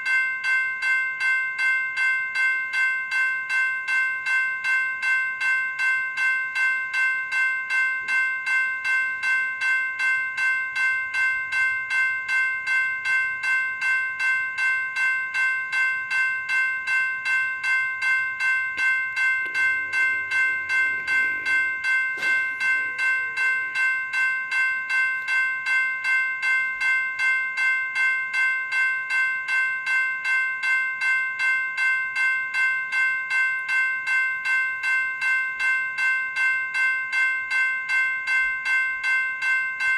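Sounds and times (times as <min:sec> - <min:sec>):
electronic bell ringing: 0:00.0 - 0:39.9.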